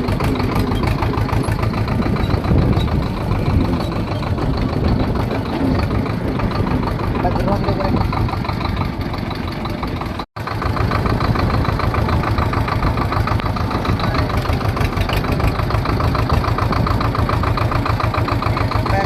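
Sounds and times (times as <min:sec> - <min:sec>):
tractor diesel engine knocking: 0:00.0 - 0:19.0.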